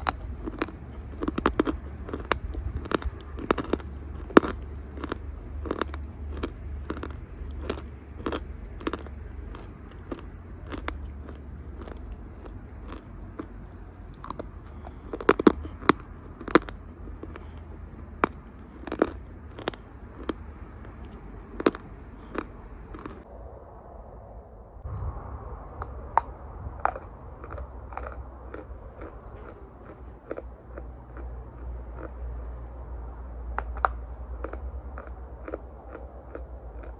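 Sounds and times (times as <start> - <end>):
chalk crunching in mouth: 0.0 - 23.2, 26.8 - 32.2, 33.6 - 36.9.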